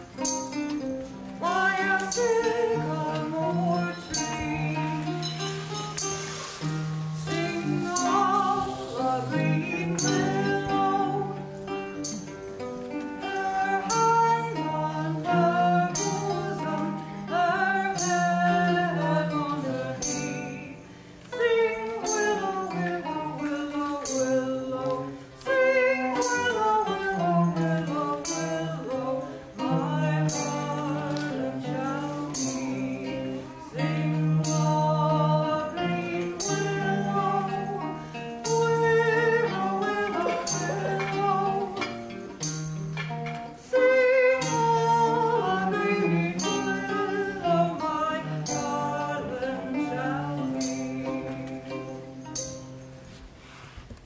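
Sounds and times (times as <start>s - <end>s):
group of singers: 0.0s - 53.7s
cello: 0.0s - 54.0s.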